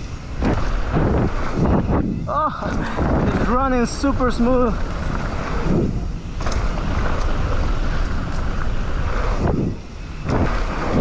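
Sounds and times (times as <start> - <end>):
bike tyres on dirt trail: 0.0 - 11.0
wind rushing on microphone: 0.0 - 11.0.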